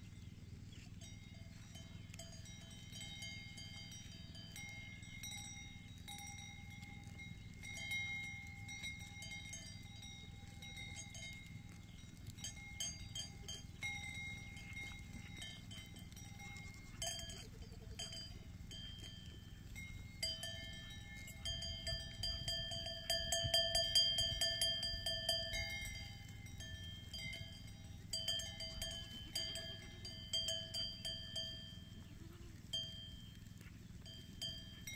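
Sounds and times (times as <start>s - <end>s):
livestock bells clinking: 0.0s - 34.9s.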